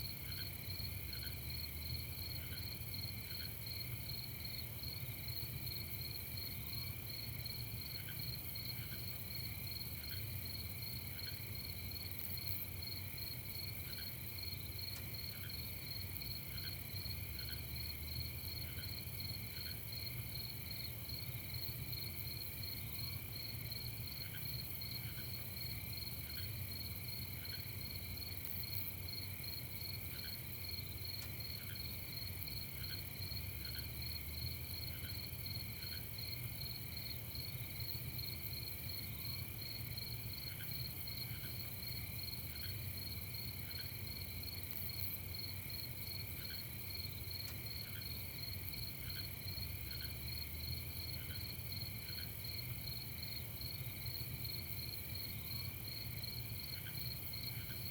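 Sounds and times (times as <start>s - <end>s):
crickets trilling: 0.0s - 57.9s.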